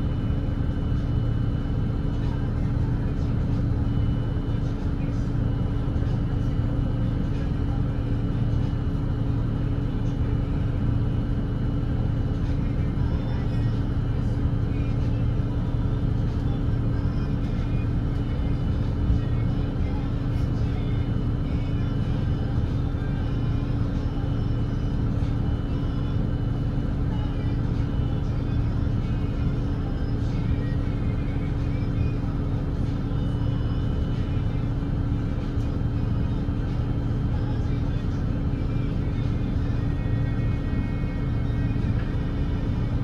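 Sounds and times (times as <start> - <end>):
bus engine drone: 0.0 - 43.0.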